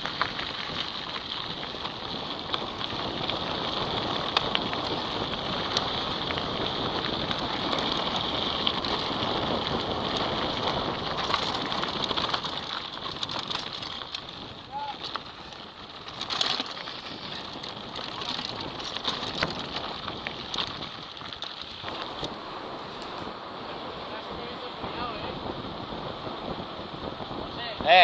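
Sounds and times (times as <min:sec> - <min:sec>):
bike tyres crunching on gravel: 0:00.0 - 0:28.0
stones and bike rattling: 0:00.0 - 0:28.0.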